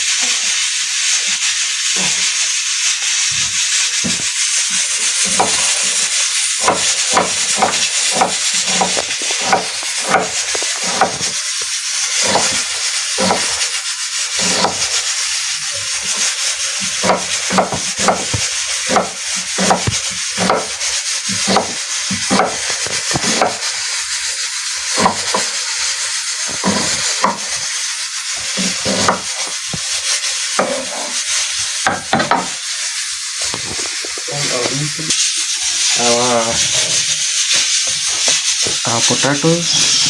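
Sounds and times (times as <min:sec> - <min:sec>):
hand scraping in food preparation: 0:01.1 - 0:31.8, 0:35.2 - 0:40.0.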